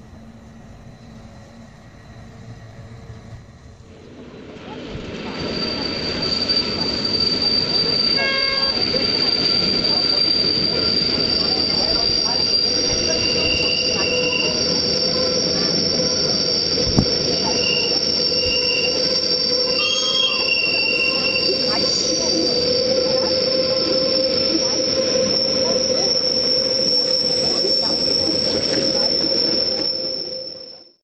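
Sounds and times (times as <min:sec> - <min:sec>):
train running rumble: 0:00.0 - 0:30.8
train wheels squealing: 0:00.0 - 0:31.0.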